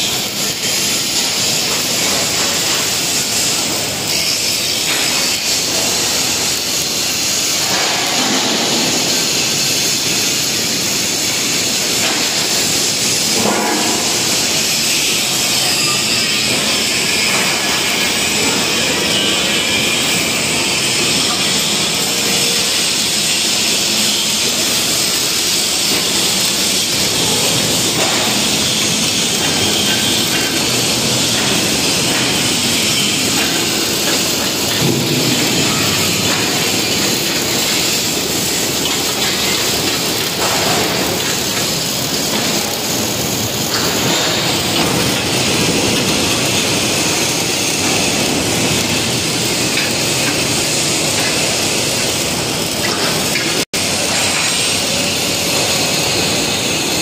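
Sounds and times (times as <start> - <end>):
arc welding crackling hiss: 0.0 - 57.0
factory noise: 0.0 - 57.0.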